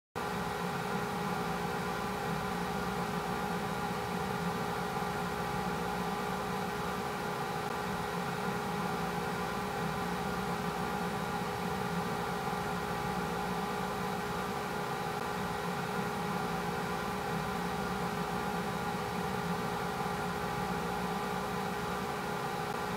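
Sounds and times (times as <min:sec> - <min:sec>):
machine hum with hiss: 0:00.2 - 0:22.9.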